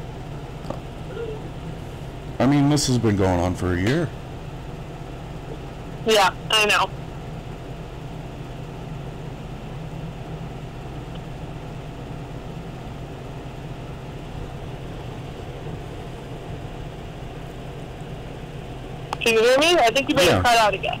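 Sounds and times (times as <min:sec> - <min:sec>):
phone line hum and hiss: 0:00.0 - 0:21.0.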